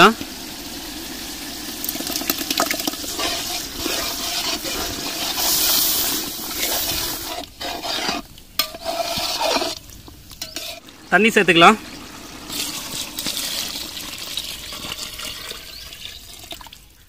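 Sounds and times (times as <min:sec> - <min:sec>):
sauce bubbling in a pot: 0:00.0 - 0:17.0
ladle stirring in a pot: 0:01.7 - 0:11.1, 0:12.4 - 0:16.7.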